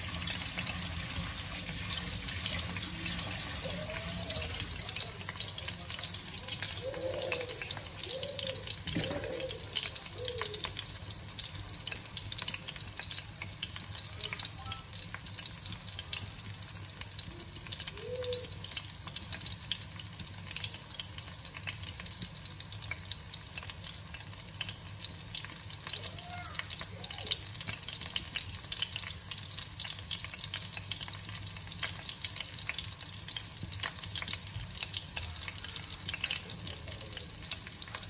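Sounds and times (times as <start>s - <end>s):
garlic sizzling in hot oil: 0.0s - 38.0s.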